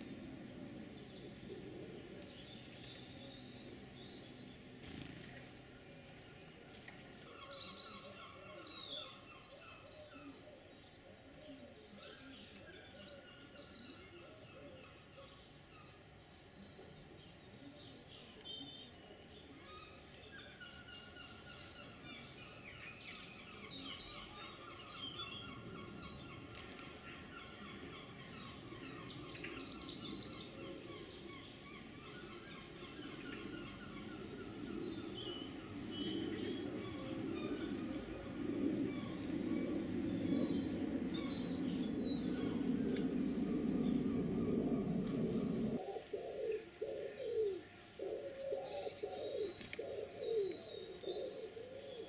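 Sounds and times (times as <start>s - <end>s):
small birds singing and chirping: 0.0s - 52.0s.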